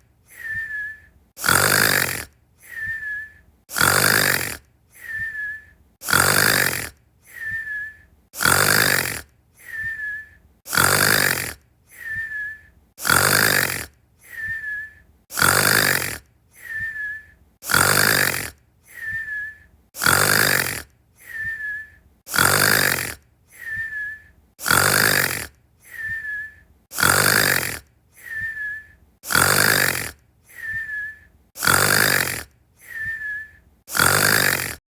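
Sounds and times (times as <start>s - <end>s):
cartoon snoring with whistle: 0.3s - 34.8s.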